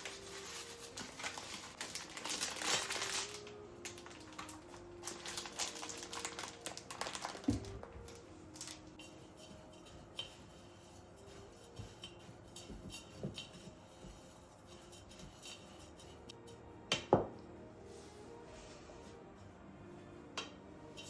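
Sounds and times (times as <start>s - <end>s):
dishes and utensils clinking: 0.0s - 17.4s, 20.4s - 21.0s
quiet background music: 0.0s - 21.0s.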